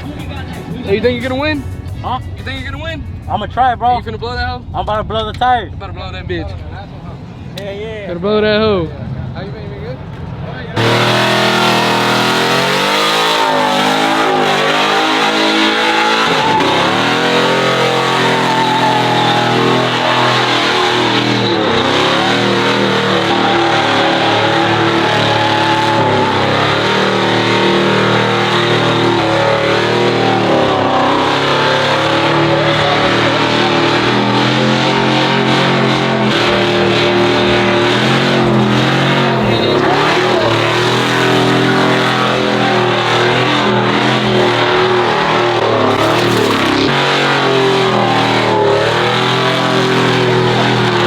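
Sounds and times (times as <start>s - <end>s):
truck engines revving: 0.0s - 51.0s.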